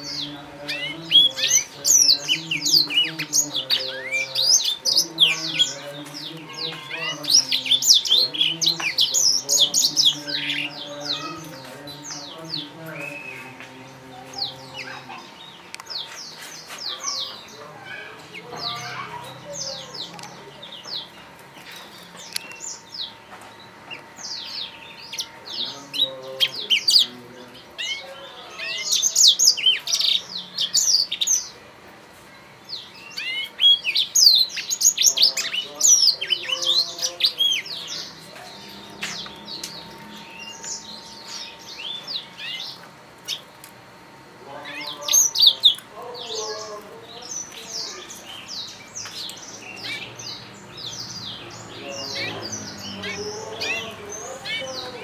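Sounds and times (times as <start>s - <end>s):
canary twittering and trilling: 0.0s - 31.7s, 32.3s - 55.0s.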